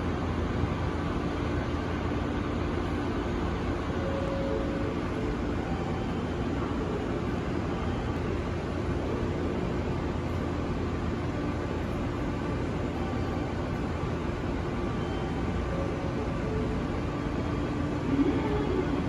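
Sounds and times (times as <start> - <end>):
faint hum: 0.0 - 19.0
train running rumble: 0.0 - 19.0.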